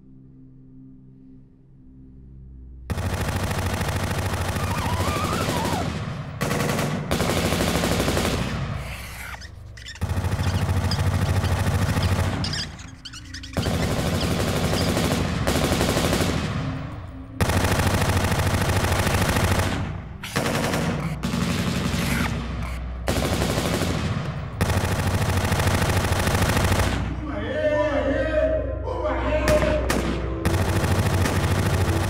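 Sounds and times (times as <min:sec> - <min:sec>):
automatic gunfire bursts: 0:02.9 - 0:27.2, 0:29.9 - 0:32.0.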